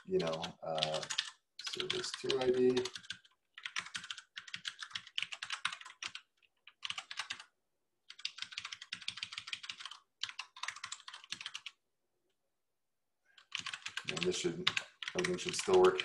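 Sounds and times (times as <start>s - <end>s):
fast typing on keyboard: 0.0s - 7.5s, 8.1s - 11.8s, 13.4s - 16.0s.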